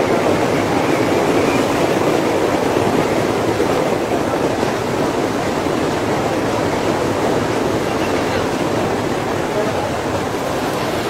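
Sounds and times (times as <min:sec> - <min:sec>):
train rumbling across bridge: 0:00.0 - 0:11.0.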